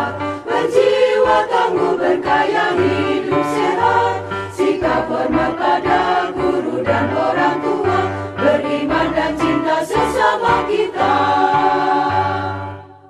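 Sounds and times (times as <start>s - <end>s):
choir singing a song: 0.0s - 13.0s
steady musical backing: 0.0s - 13.0s.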